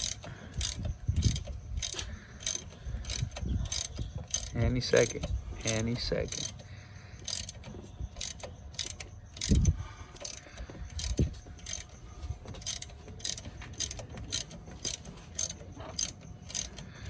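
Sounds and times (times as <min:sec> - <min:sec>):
hand ratchet clicking: 0:00.0 - 0:17.0.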